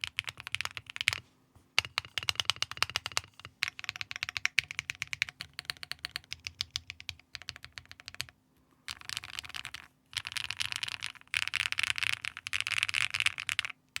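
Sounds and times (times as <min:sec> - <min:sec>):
typing on mechanical keyboard: 0:00.0 - 0:01.2, 0:01.8 - 0:08.3, 0:08.9 - 0:14.0.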